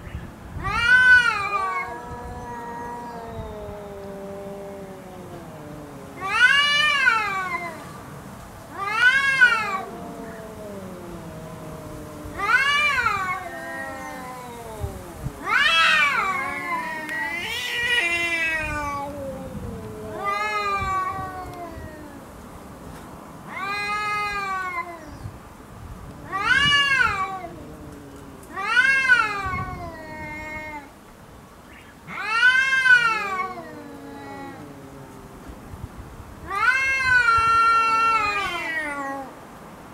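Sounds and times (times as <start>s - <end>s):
cat growling: 0.6s - 22.4s, 26.0s - 30.9s, 32.1s - 39.4s
cats yowling: 0.6s - 22.5s, 23.4s - 25.2s, 26.0s - 31.0s, 32.0s - 39.5s.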